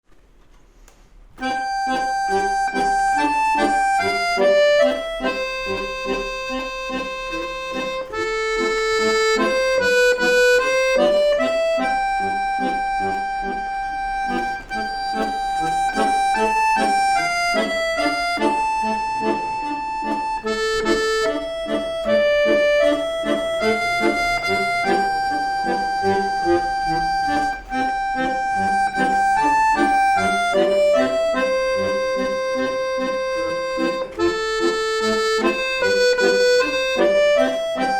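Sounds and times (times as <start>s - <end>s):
accordion playing lively music: 1.4s - 37.9s.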